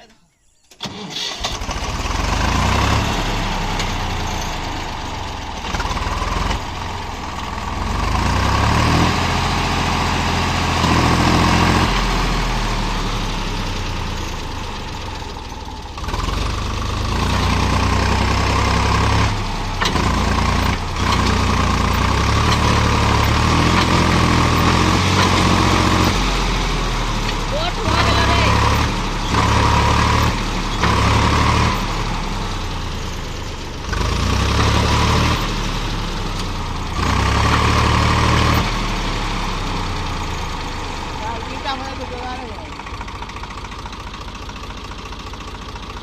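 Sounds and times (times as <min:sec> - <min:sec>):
tractor diesel engine revving: 0:00.7 - 0:46.0.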